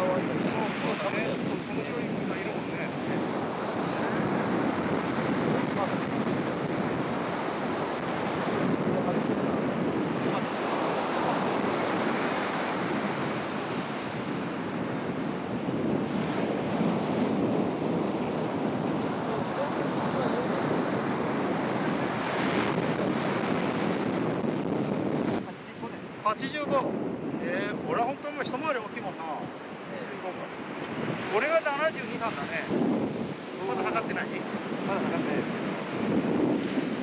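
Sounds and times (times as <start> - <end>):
surf breaking on a sandy beach: 0.0 - 37.0.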